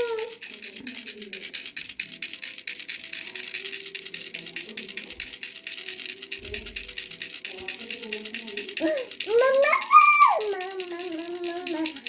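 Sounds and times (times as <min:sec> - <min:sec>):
baby rattle shaken: 0:00.0 - 0:12.0.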